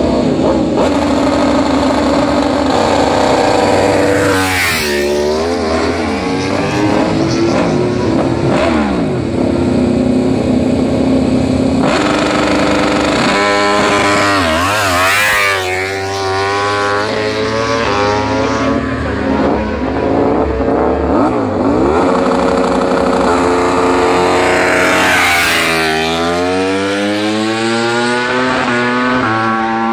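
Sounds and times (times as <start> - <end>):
motorcycles launching and accelerating: 0.0 - 29.9
race motorcycle engines revving: 0.0 - 29.9.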